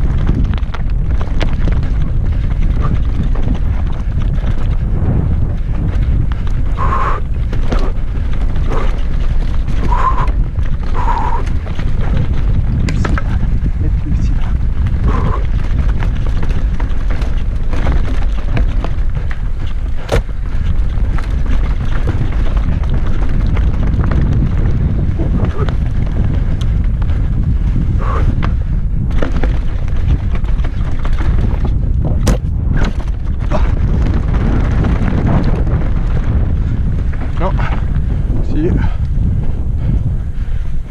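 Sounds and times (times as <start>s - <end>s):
mountain bike rattling: 0.0s - 40.9s
wind buffeting microphone: 0.0s - 40.9s.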